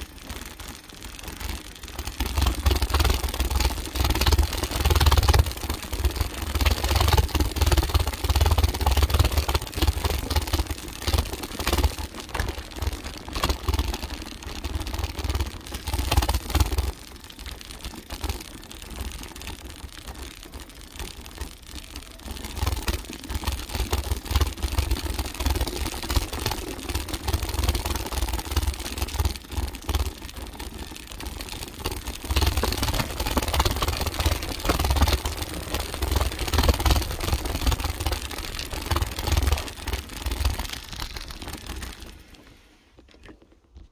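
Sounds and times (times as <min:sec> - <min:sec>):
bike rattling over bumps: 0:00.0 - 0:43.9.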